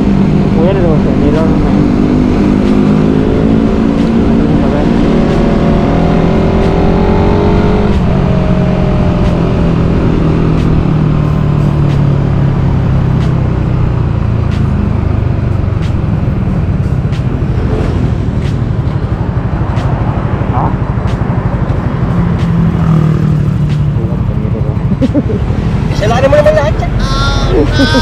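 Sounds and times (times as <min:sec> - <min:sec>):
motorcycle engine cruising: 0:00.0 - 0:28.0.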